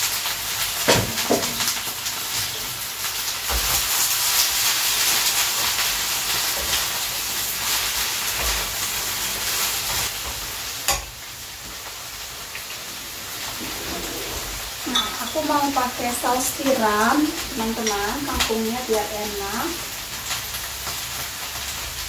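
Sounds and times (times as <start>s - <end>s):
hot oil sizzling in pans: 0.0s - 22.0s
spatula stir-frying: 0.0s - 22.0s.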